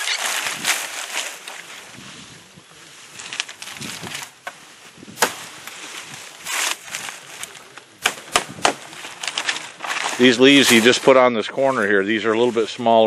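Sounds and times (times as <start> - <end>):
dry palm fronds rustling: 0.0 - 13.0.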